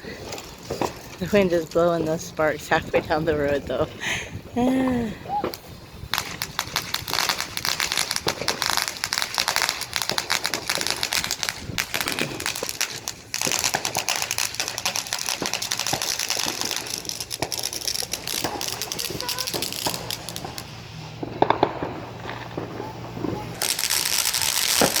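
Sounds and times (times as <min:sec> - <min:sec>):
firework fountain crackling: 0:00.0 - 0:25.0.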